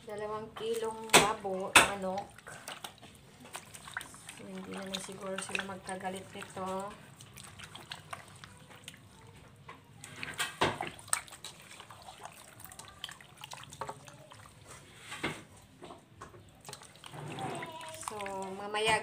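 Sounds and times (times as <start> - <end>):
wet squelching and dripping: 0.2 - 19.0.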